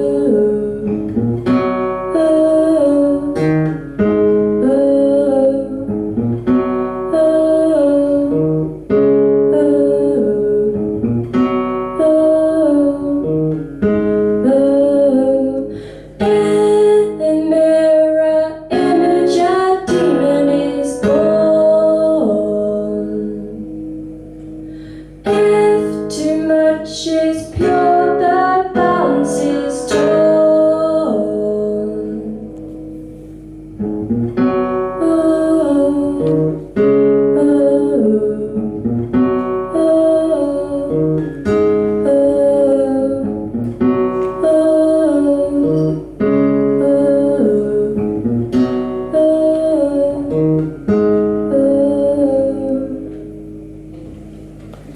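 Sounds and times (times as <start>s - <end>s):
woman singing: 0.0s - 6.0s, 6.6s - 11.1s, 11.8s - 23.8s, 25.2s - 32.6s, 34.7s - 53.3s
acoustic guitar: 0.0s - 54.9s.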